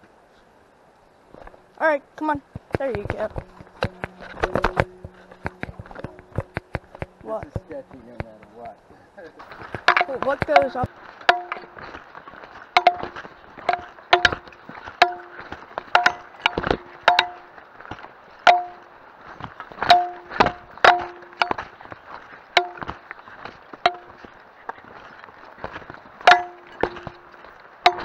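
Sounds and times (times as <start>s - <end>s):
loose gear knocking hollowly: 2.5s - 8.8s, 9.4s - 28.0s.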